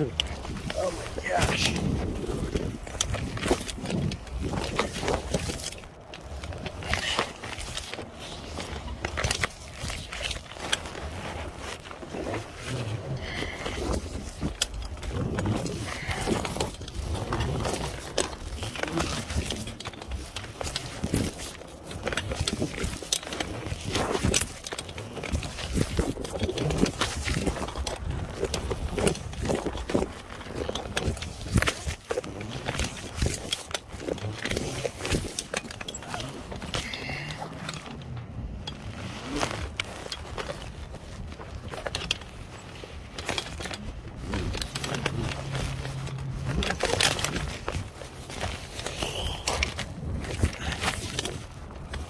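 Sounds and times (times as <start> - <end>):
climbing gear clinking on steel: 0.0 - 52.0
wind buffeting microphone: 0.0 - 52.0.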